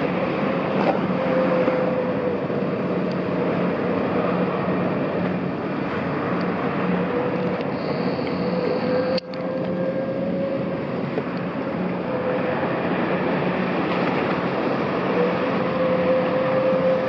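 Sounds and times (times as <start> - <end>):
gas turbine hum: 0.0 - 17.0
rushing water and spray: 0.0 - 17.0.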